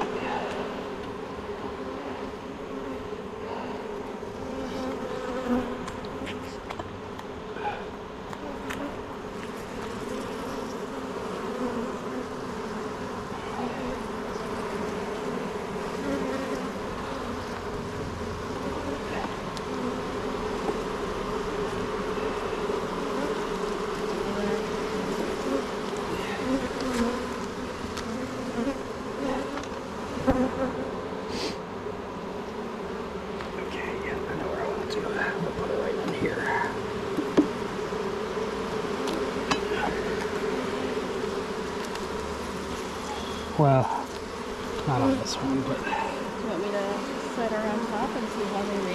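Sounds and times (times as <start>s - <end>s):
bees humming: 0.0s - 48.9s.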